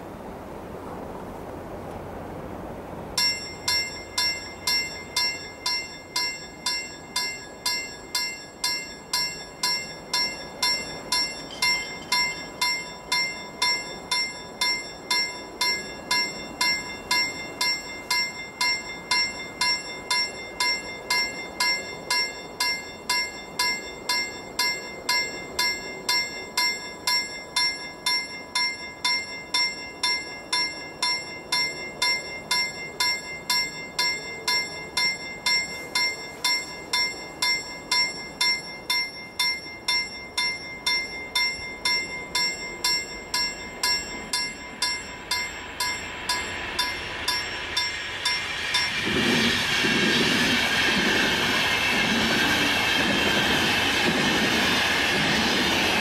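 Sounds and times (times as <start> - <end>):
level crossing bell ringing: 3.2 - 49.0.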